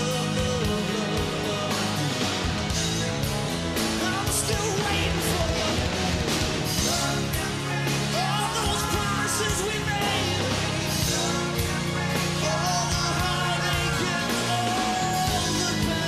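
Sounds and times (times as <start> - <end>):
bass guitar: 0.0 - 16.0
drums with cymbals: 0.0 - 16.0
electric guitar: 0.0 - 16.0.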